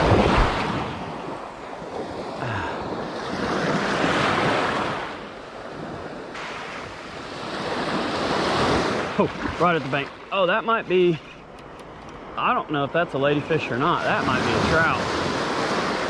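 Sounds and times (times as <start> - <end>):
small surf washing up: 0.0 - 11.5, 12.2 - 16.0.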